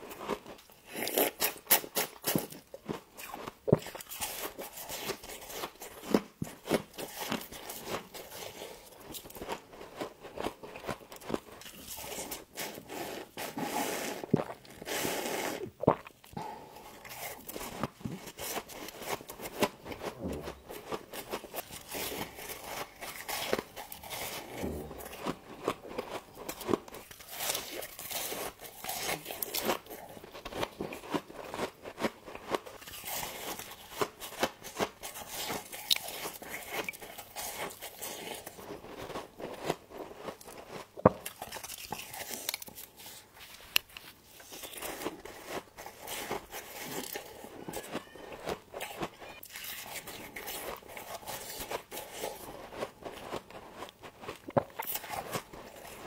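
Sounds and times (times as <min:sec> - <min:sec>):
crunchy frost chewing: 0:00.0 - 0:56.0.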